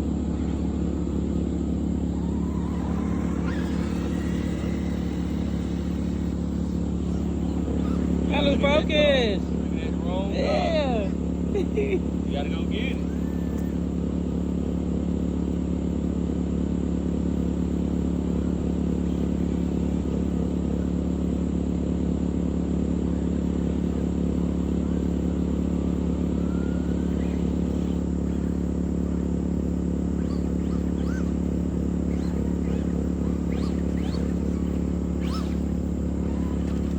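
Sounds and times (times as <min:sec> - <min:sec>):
faint rising whine: 0:00.0 - 0:15.6, 0:16.7 - 0:36.9
motor humming: 0:00.0 - 0:36.9.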